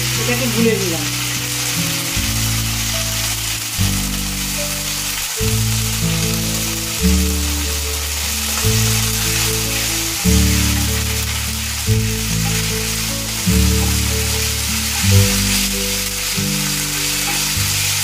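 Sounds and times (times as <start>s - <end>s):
music of held low chords: 0.0s - 18.0s
oil sizzling in a frying pan: 0.0s - 18.0s.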